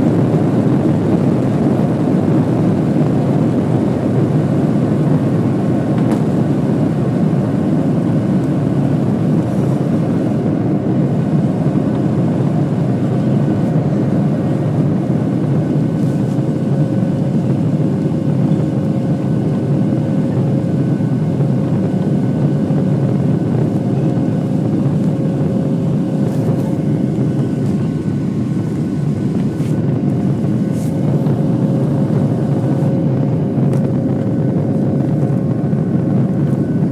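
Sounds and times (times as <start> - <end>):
jet engine drone in cabin: 0.0 - 36.9.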